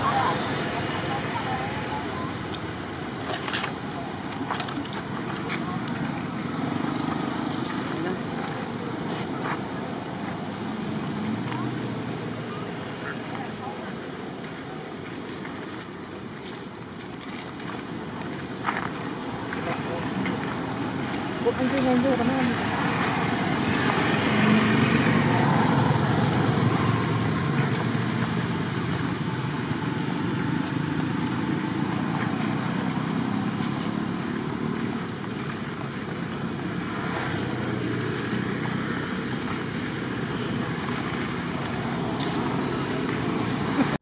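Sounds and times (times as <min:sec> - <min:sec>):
road traffic noise: 0:00.0 - 0:44.0.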